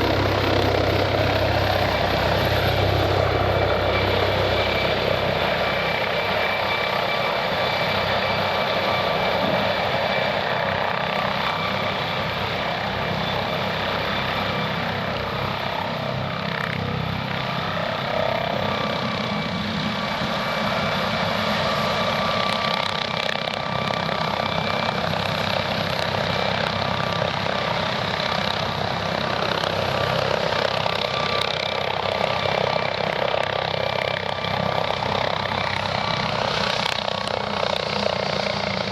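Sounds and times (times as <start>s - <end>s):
helicopter running: 0.0s - 38.9s
turbine engine high whine: 0.0s - 38.9s.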